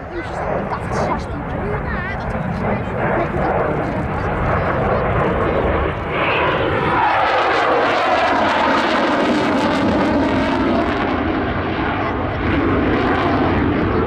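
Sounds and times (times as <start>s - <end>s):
jet passing overhead: 0.0s - 14.0s.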